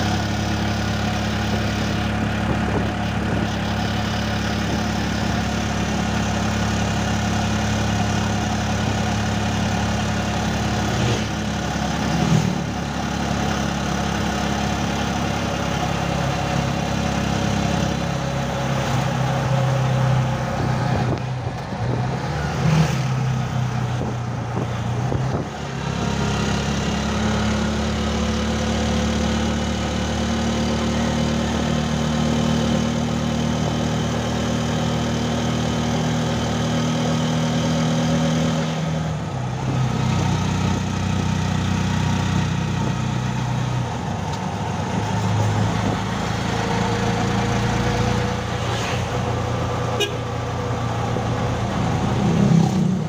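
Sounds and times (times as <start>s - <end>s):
road noise: 0.0s - 53.0s
vehicle engine running: 0.0s - 53.0s.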